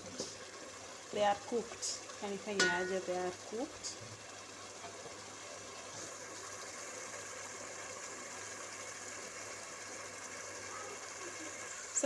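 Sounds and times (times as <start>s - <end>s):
tomatoes sizzling in a metal pot: 0.0s - 12.0s.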